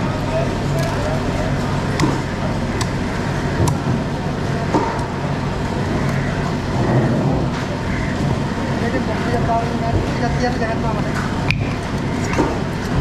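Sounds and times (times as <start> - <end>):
busy market din: 0.0 - 13.0
low motor hum: 0.0 - 13.0.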